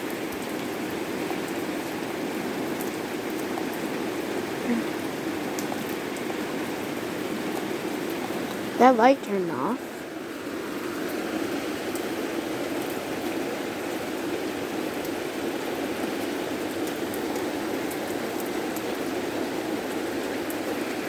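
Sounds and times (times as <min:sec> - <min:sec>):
small drip ticks: 0:00.0 - 0:08.8, 0:11.8 - 0:21.0
torrential rain hissing: 0:00.0 - 0:21.0.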